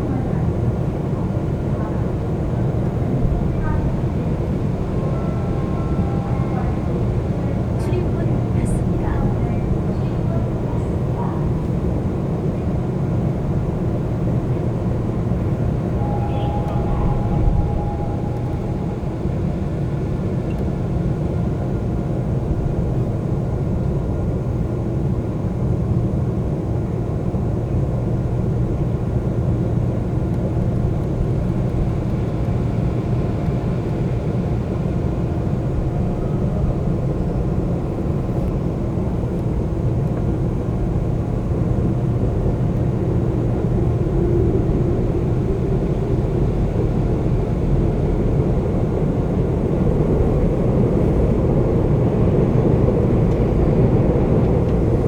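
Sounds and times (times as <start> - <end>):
subway train rumble: 0.0 - 55.0.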